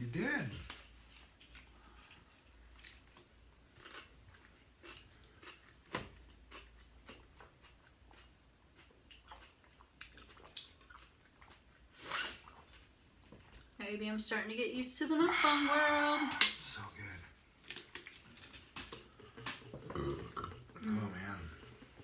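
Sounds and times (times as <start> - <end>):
people chewing food: 0.4 - 13.8, 16.4 - 22.0.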